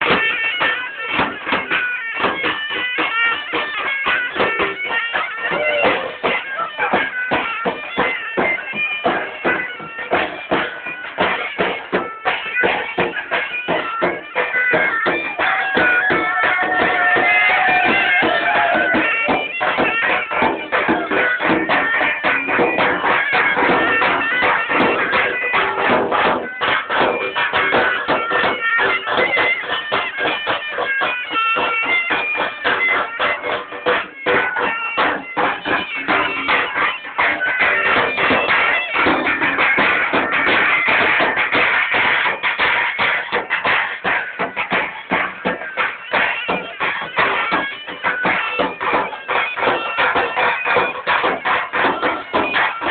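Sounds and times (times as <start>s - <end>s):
fast dense percussion: 0.0s - 52.9s
reedy wind instrument melody: 0.0s - 52.9s.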